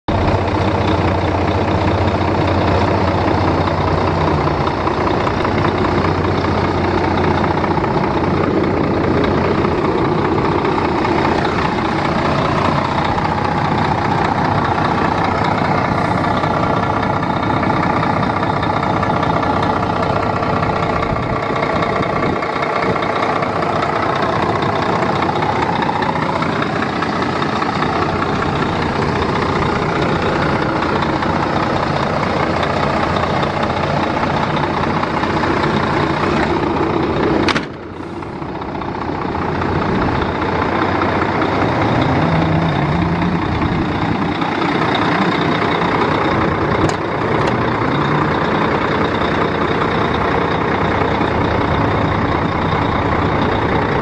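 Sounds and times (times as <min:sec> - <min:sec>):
diesel truck engine idling: 0:00.1 - 0:54.0.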